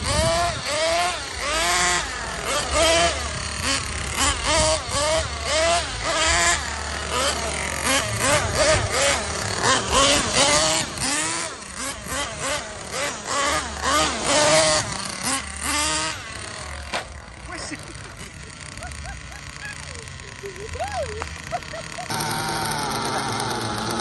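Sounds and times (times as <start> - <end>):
small model engine revving: 0.0 - 24.0.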